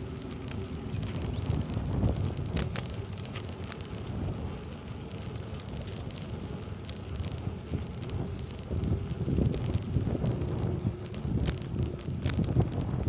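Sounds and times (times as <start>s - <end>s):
bicycle tyres rolling on concrete: 0.0s - 13.0s
sharp clicks and crackles: 0.0s - 13.0s
wind buffeting microphone: 0.0s - 13.0s.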